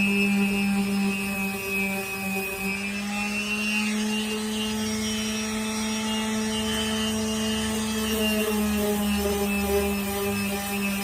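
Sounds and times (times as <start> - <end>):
electric power sander running: 0.0 - 11.0.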